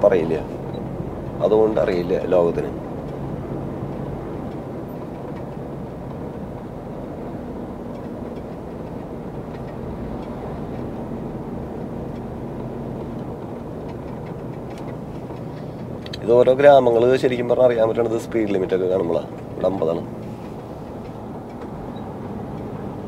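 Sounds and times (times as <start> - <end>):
engine drone: 0.0 - 23.0
road rumble: 0.0 - 23.0.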